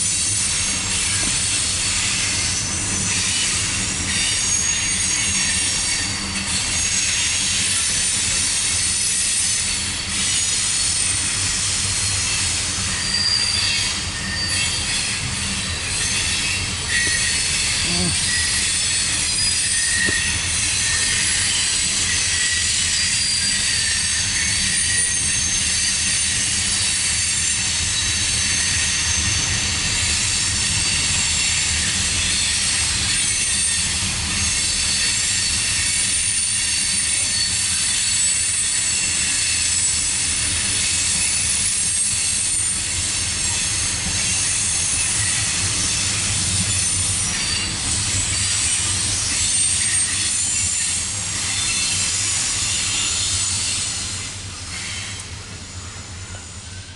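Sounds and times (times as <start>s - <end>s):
steel wheels squealing: 0.0s - 56.9s
train wheels rumbling on track: 0.0s - 56.9s.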